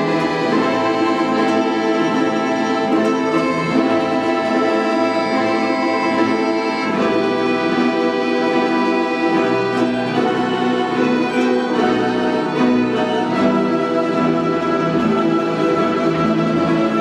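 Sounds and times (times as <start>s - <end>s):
folk instrument orchestra playing: 0.0s - 17.0s.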